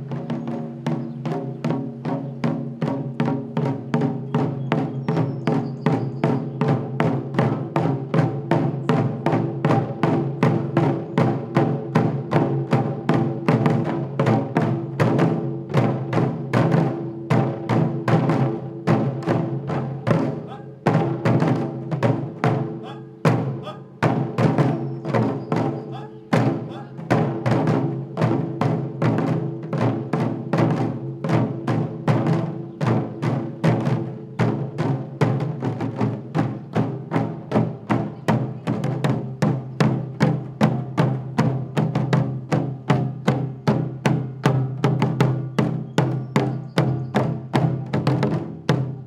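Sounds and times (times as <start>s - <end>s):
taiko drums beating: 0.0s - 49.0s.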